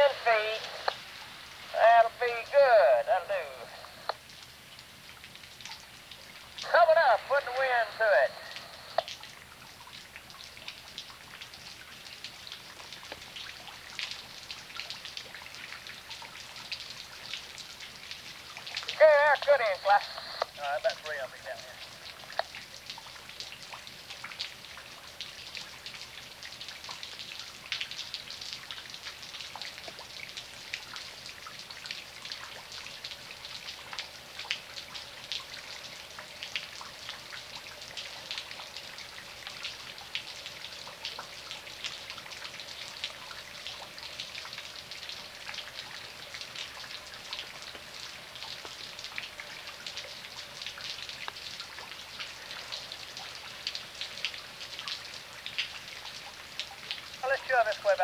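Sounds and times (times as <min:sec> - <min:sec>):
steady rain: 0:00.0 - 0:58.0
close sharp drips: 0:00.2 - 0:58.0.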